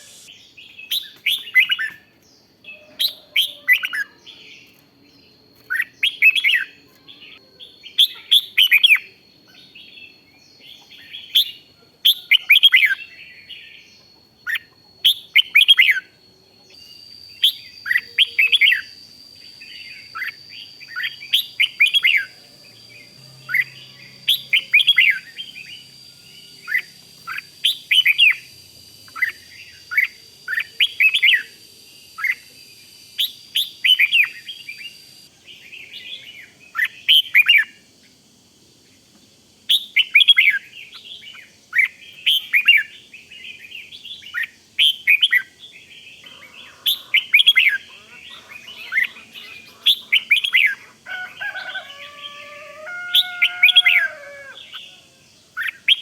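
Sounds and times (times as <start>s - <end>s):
bird singing warbled phrases: 0.0s - 38.2s, 38.8s - 56.0s
faint high whine: 0.0s - 56.0s.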